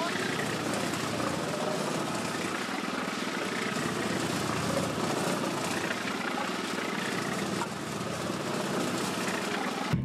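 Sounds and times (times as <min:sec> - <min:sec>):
small engine pulsing: 0:00.0 - 0:10.0.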